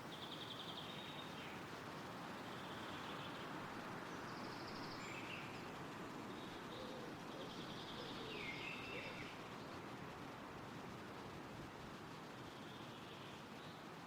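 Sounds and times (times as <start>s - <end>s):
wind rustling through trees: 0.0s - 14.0s.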